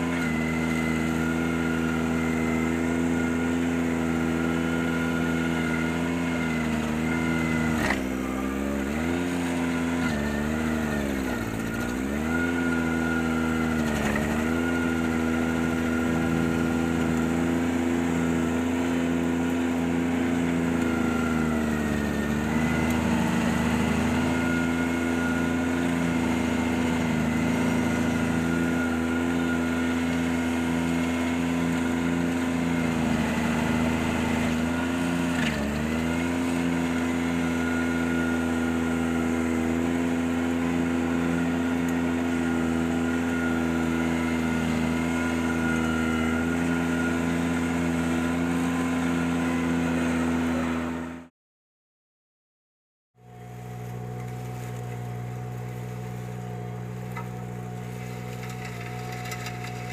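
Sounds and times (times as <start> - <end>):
tractor engine running: 0.0 - 51.2, 53.2 - 59.9.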